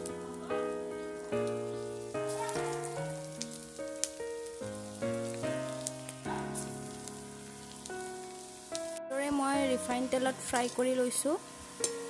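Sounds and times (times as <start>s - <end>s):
gentle background music: 0.0s - 12.0s
oil sizzling and crackling: 0.0s - 12.0s.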